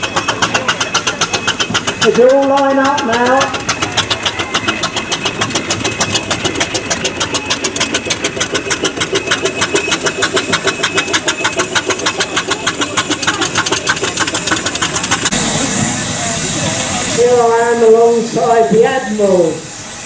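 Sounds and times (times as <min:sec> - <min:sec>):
vintage engine running: 0:00.0 - 0:20.0.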